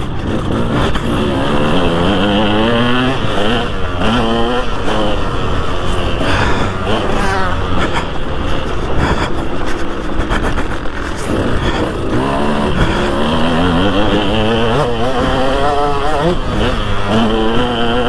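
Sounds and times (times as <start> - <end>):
constant rough low noise: 0.0 - 18.0
motocross engine revving: 0.0 - 18.0.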